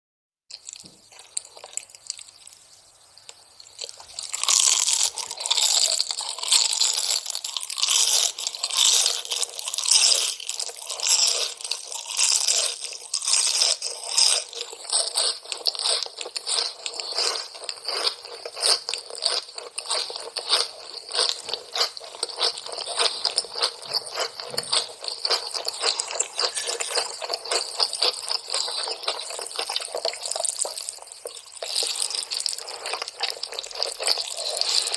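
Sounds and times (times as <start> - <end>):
crisp food crunching: 0.5 - 34.9.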